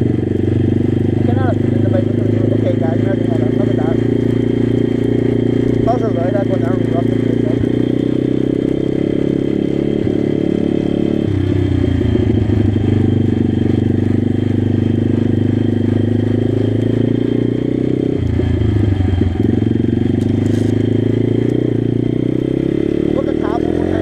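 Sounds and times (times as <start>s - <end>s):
pit bike engine running: 0.0s - 24.0s.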